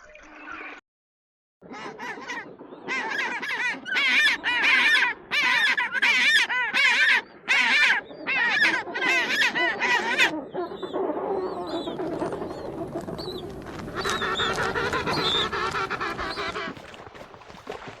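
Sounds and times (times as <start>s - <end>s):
flock of birds calling: 1.7s - 17.3s.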